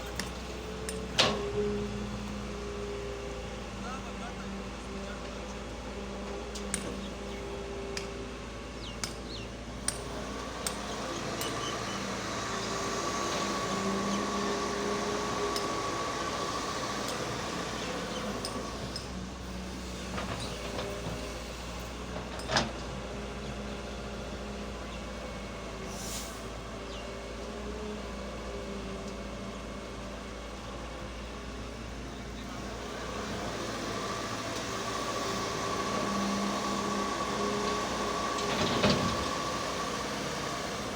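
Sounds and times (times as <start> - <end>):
excavator engine running: 0.0 - 25.9, 26.6 - 40.9.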